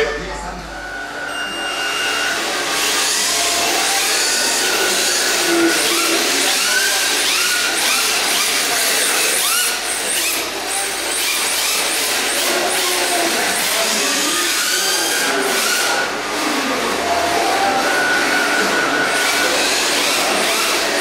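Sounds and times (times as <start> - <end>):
rc car electric motors whining: 0.8 - 21.0.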